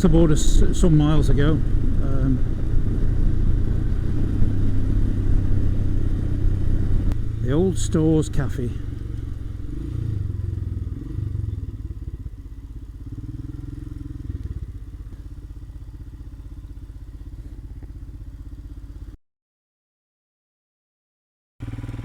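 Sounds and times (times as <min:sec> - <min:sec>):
motorcycle engine running: 0:00.0 - 0:19.2, 0:21.6 - 0:22.0.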